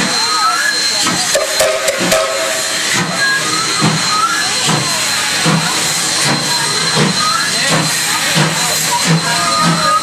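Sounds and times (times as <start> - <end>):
steam locomotive exhaust beats: 0.0 - 10.0
steady steam hiss: 1.0 - 10.0.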